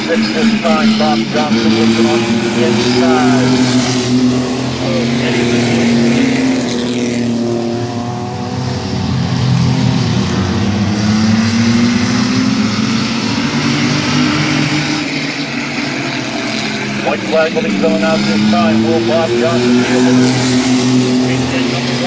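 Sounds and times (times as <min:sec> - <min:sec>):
race engines droning: 0:00.0 - 0:22.0.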